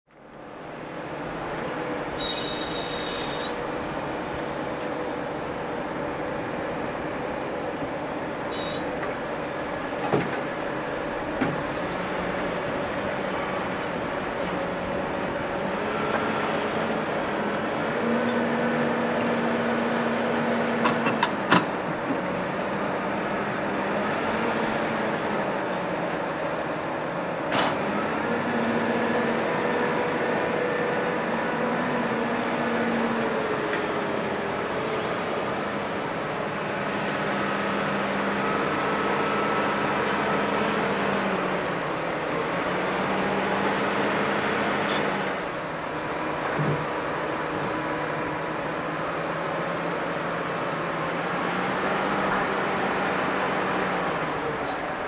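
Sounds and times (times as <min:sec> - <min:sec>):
diesel engine running: 0:00.2 - 0:55.0.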